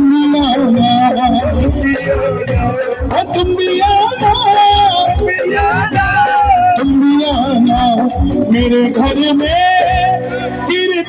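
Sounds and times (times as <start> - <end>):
devotional music over loudspeakers: 0.0 - 11.0.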